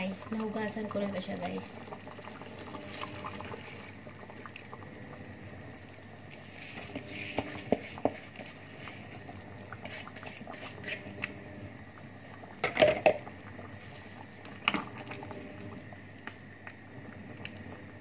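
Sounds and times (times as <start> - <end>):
broth simmering in a pot: 0.0 - 18.0.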